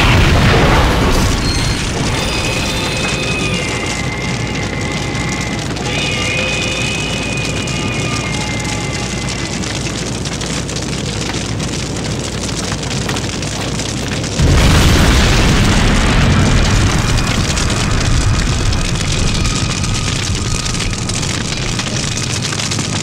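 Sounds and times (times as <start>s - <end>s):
fire crackling and roaring: 0.0s - 23.0s
heavy low rumble: 0.0s - 23.0s.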